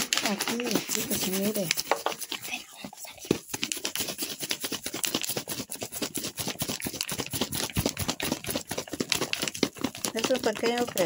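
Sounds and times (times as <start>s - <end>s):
plastic bottle being shaken: 0.0s - 11.0s.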